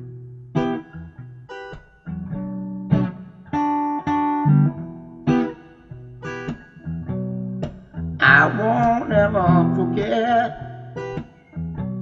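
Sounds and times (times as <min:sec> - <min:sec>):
guitar chords plucked and strummed: 0:00.0 - 0:12.0.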